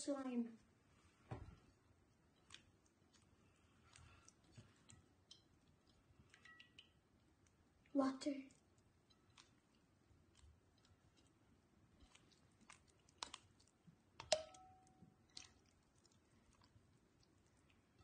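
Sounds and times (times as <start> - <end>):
slime squelching by hand: 1.4 - 18.0.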